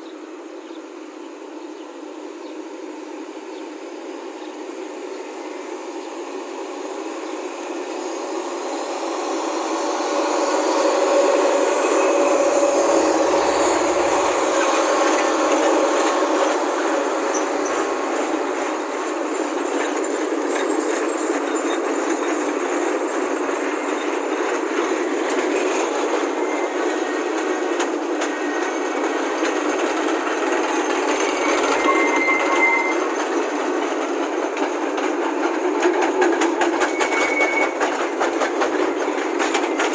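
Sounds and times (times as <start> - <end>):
train wagons rattling on rails: 5.9 - 39.9.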